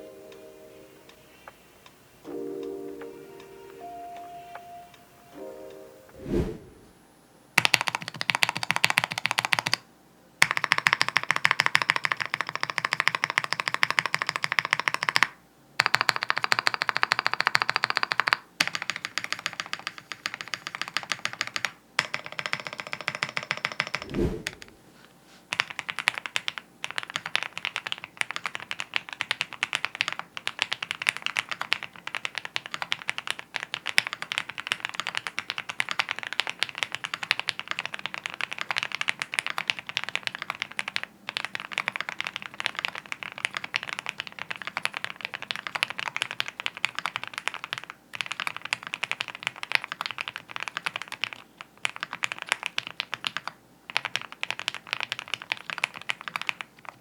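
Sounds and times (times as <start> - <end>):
fast mechanical keyboard typing: 7.6 - 9.8, 10.4 - 24.1, 25.5 - 57.0.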